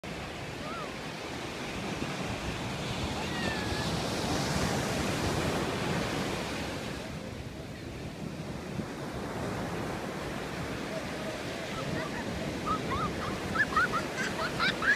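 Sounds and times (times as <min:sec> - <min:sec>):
surf breaking on beach: 0:00.1 - 0:14.9
wind rumbling on microphone: 0:00.1 - 0:14.9.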